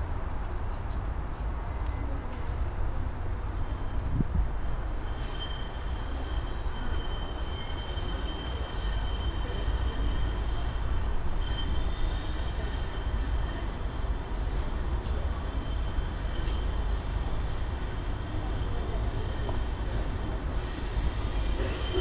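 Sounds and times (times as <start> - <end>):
tram low rumble: 0.0 - 22.0.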